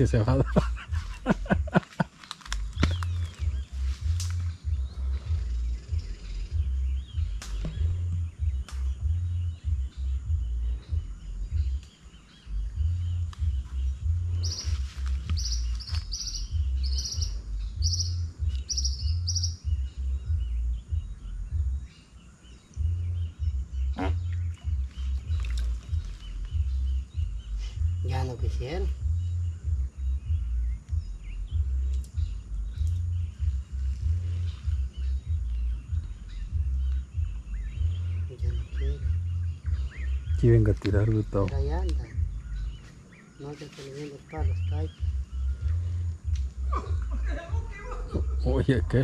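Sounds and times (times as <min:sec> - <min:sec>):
low rumble: 0:00.0 - 0:43.2, 0:44.4 - 0:49.0
bird chirping: 0:00.0 - 0:49.0.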